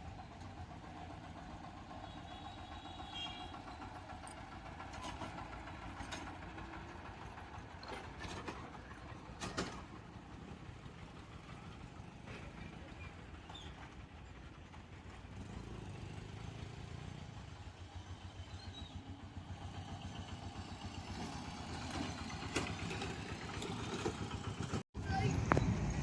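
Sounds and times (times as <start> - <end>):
engine fluttering rumble: 0.0 - 26.0.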